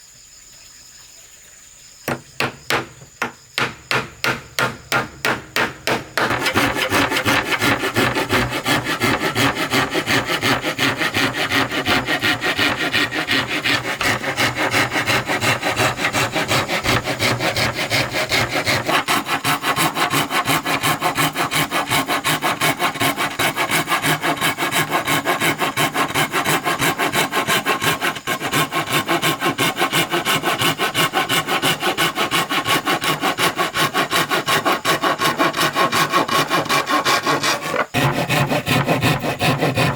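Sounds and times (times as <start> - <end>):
hand saw cutting wood: 2.1 - 39.9.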